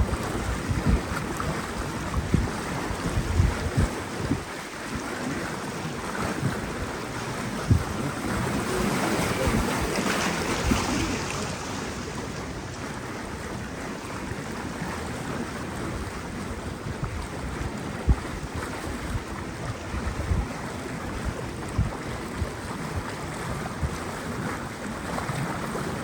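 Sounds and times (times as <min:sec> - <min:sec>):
water rushing: 0:00.0 - 0:26.0
wind rumbling on microphone: 0:00.0 - 0:26.0.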